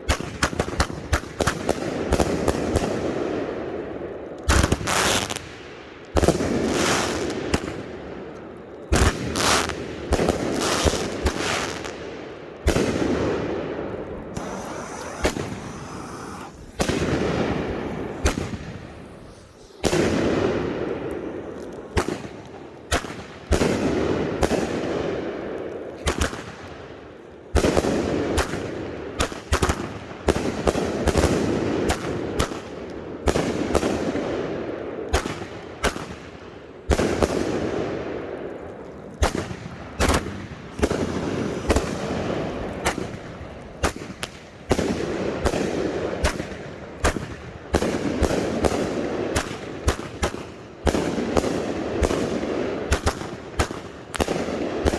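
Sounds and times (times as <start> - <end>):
fireworks bangs and pops: 0.0 - 54.9.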